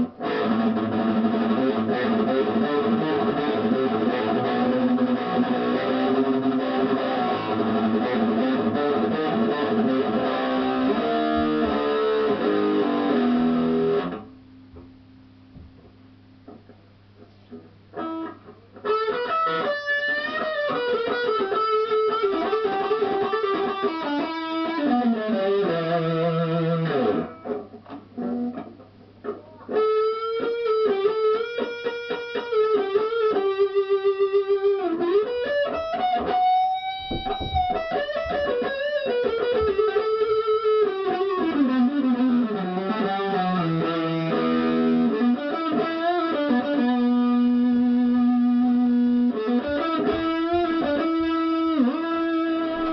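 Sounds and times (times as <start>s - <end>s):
electric guitar lead lines: 0.0s - 52.9s.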